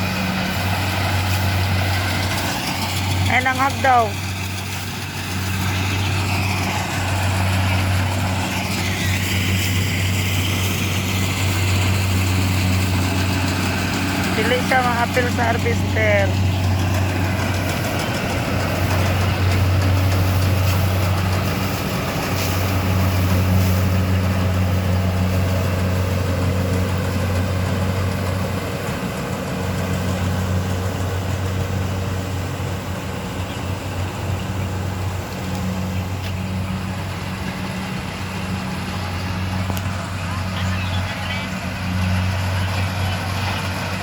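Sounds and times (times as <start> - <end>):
combine harvester engine drone: 0.0 - 44.0
machinery noise: 0.0 - 44.0.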